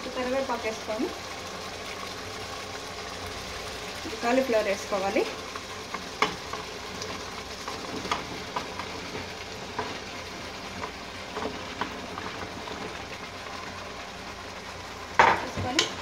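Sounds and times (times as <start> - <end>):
gravy simmering and sizzling: 0.0 - 16.0.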